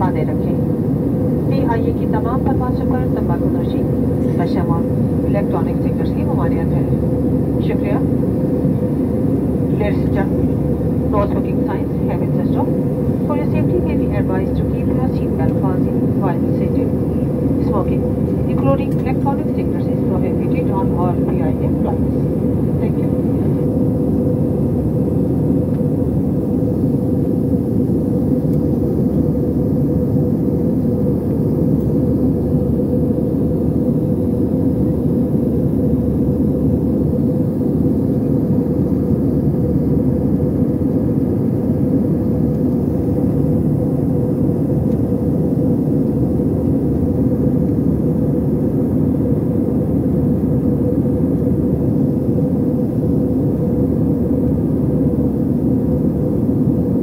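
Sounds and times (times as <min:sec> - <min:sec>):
constant cabin hum: 0:00.0 - 0:57.0
engine and airflow noise: 0:00.0 - 0:57.0.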